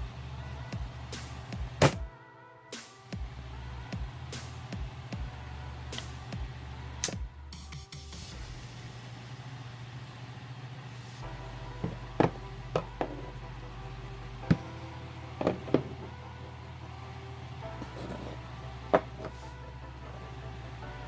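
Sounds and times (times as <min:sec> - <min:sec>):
steady low hum: 0:00.0 - 0:02.1, 0:03.2 - 0:07.6, 0:08.3 - 0:21.0.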